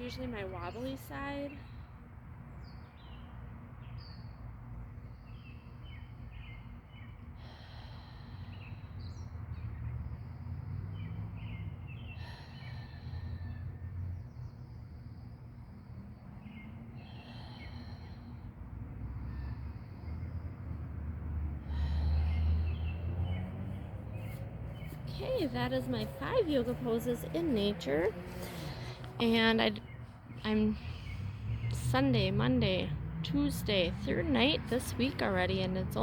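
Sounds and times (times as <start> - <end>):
low background rumble: 5.2 - 36.0.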